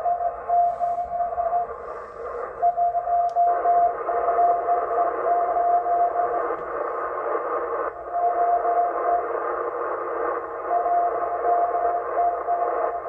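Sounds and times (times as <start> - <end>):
morse code beat tone: 0.0 - 13.0
receiver hiss: 0.0 - 13.0.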